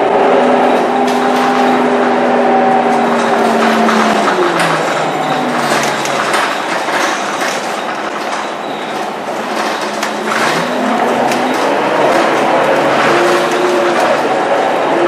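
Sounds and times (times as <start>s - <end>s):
bus diesel engine: 0.0s - 15.0s
knocks and rattles: 0.3s - 15.0s.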